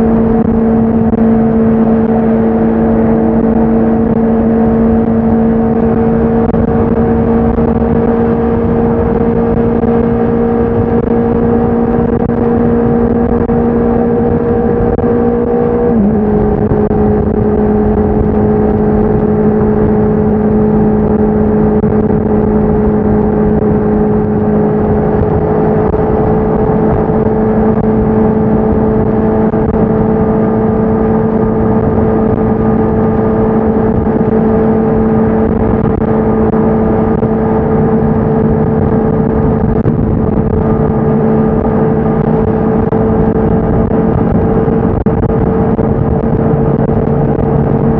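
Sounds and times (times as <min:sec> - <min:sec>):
motorcycle engine humming: 0:00.0 - 0:47.9.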